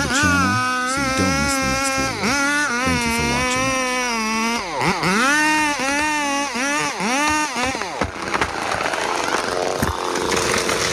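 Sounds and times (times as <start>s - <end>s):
chainsaw engine revving: 0.0s - 10.9s.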